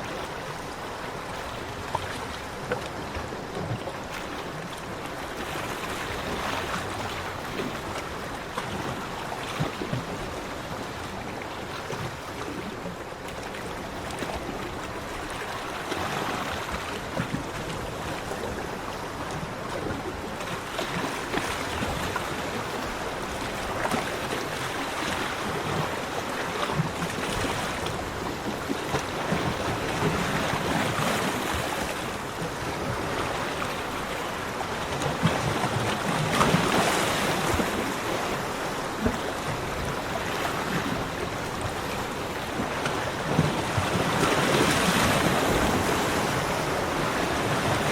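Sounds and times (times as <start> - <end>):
waves breaking on a beach: 0.0 - 47.9.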